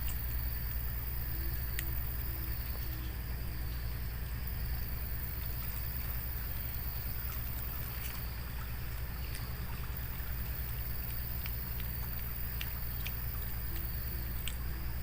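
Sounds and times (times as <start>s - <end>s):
faint ticks: 0.0s - 3.1s, 5.2s - 15.0s.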